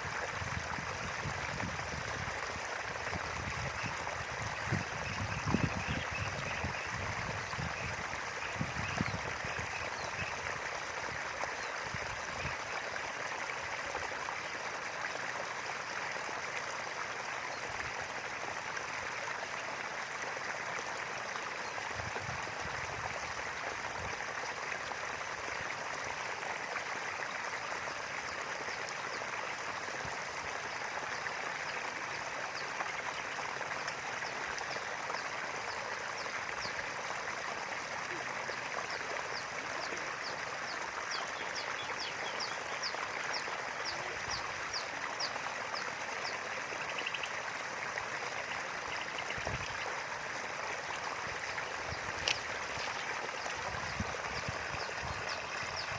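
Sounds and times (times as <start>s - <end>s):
river flowing: 0.0s - 55.9s.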